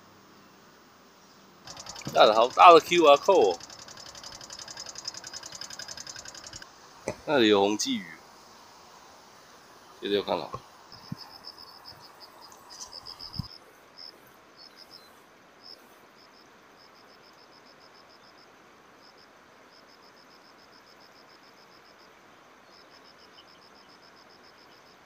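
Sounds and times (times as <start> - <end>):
steady outdoor hiss: 0.0 - 25.0
cricket chirping: 1.2 - 25.0.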